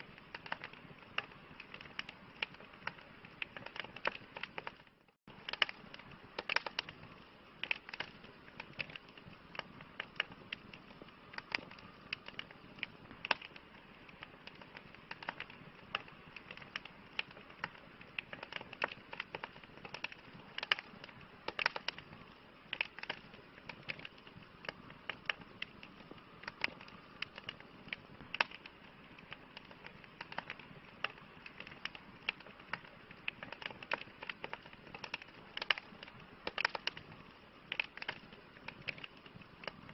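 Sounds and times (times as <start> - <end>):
campfire crackling: 0.0 - 39.9
soft steady hiss: 0.0 - 39.9.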